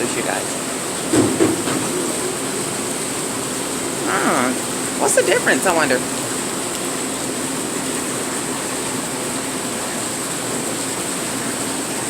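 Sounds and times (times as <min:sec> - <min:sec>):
water bubbling in tanks: 0:00.0 - 0:12.0.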